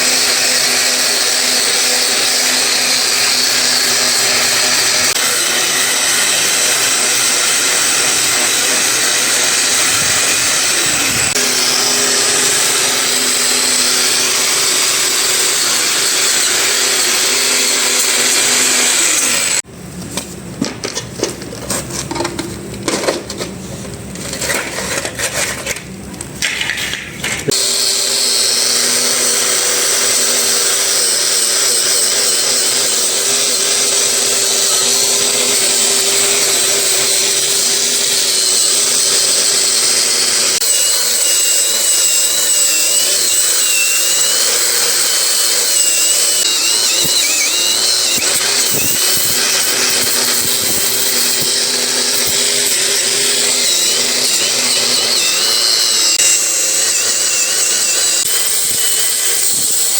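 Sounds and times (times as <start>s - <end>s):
electric power tool running: 0.0s - 19.7s, 26.4s - 59.9s.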